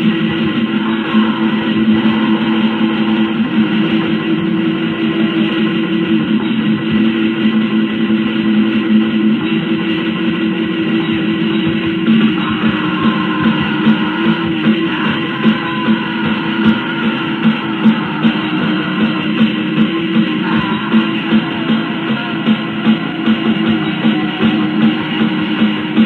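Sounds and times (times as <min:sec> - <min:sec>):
distorted electric guitars: 0:00.0 - 0:26.0.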